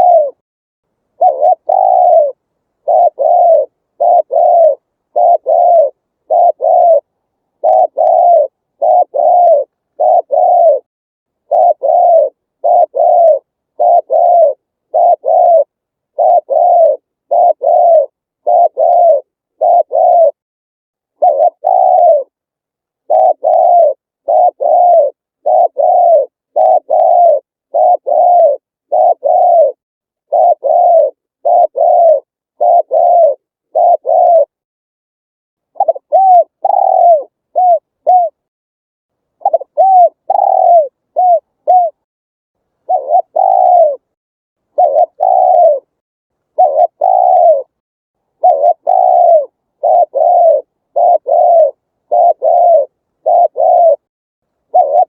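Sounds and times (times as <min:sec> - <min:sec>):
dove cooing: 0:00.0 - 0:00.4, 0:01.2 - 0:20.4, 0:21.1 - 0:22.4, 0:23.0 - 0:34.6, 0:35.8 - 0:38.5, 0:39.4 - 0:42.0, 0:42.8 - 0:55.0.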